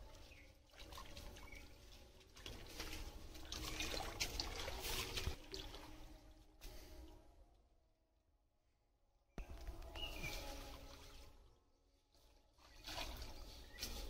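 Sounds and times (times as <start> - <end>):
water splashing and sloshing: 0.0 - 7.5, 9.4 - 14.0.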